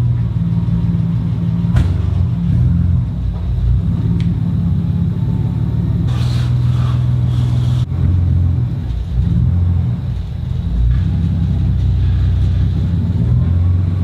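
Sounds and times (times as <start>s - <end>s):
car engine running at low revs: 0.0s - 14.0s.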